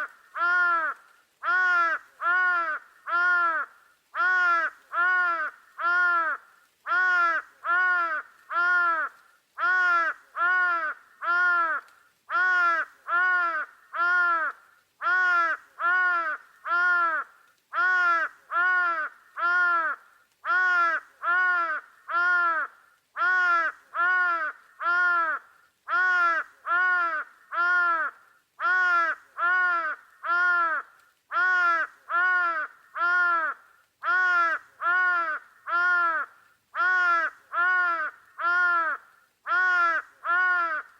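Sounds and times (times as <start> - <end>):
bird calling harshly: 0.0 - 40.9.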